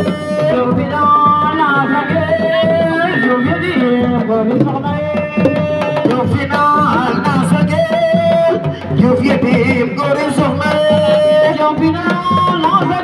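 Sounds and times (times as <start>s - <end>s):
hand drums playing: 0.0s - 13.0s.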